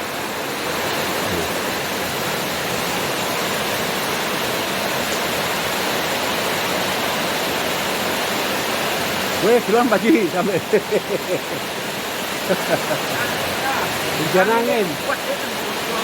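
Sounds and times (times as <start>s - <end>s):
heavy rain in strong wind: 0.0s - 16.0s.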